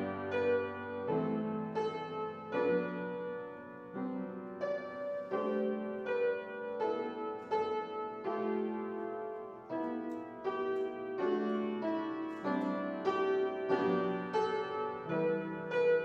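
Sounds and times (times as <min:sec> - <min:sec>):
solo piano playing slowly: 0:00.0 - 0:16.0.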